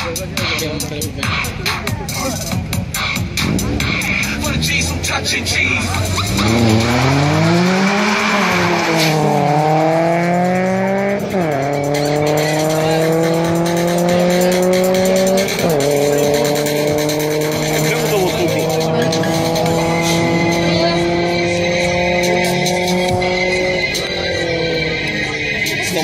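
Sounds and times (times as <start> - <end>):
car engines accelerating hard: 0.0 - 26.0.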